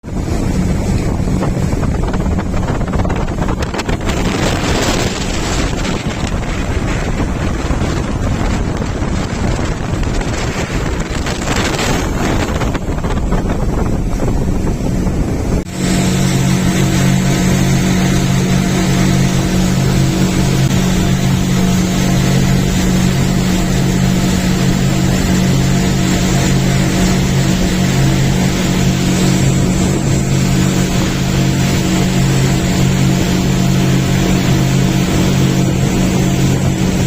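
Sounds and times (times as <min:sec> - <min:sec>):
speedboat engine droning: 0:00.0 - 0:37.0
water rushing: 0:00.0 - 0:37.0
wind buffeting microphone: 0:00.0 - 0:37.0.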